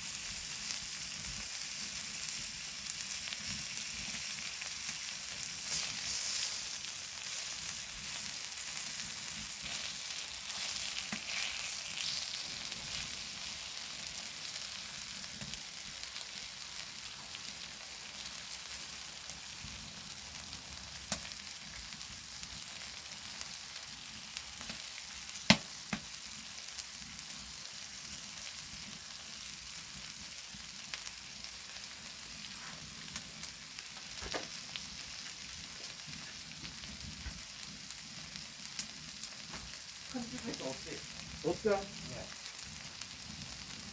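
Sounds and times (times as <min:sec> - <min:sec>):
meat sizzling on hot stone: 0:00.0 - 0:43.9.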